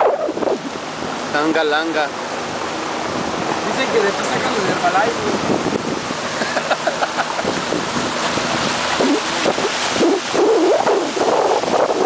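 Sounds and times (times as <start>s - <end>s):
motorboat motor running: 0.0s - 12.0s
water rushing past hull: 0.0s - 12.0s
wind buffeting microphone: 0.0s - 12.0s.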